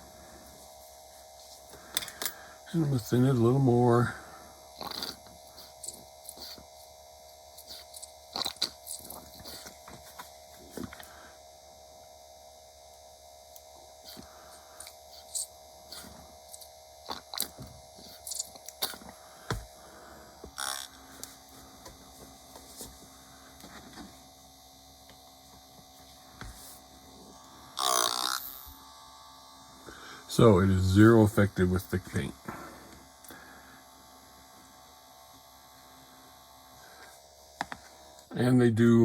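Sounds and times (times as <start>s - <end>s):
electric paint stirrer humming: 0.0s - 39.0s.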